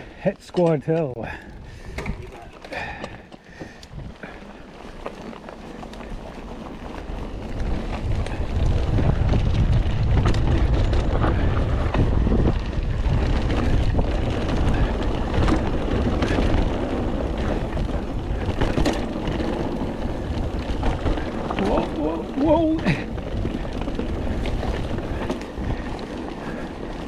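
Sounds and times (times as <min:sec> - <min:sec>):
bike clicks and rattles: 0:00.0 - 0:27.0
wind buffeting microphone: 0:01.2 - 0:04.5, 0:06.0 - 0:27.0.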